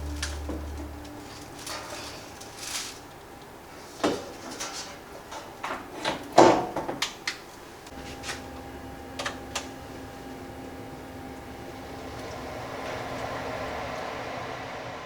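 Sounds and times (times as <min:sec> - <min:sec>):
appliance hum: 0:00.0 - 0:06.3, 0:07.0 - 0:15.0.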